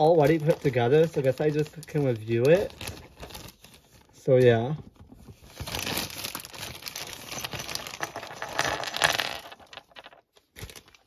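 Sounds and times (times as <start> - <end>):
plastic bag crinkling: 0.0 - 4.4, 5.3 - 11.0.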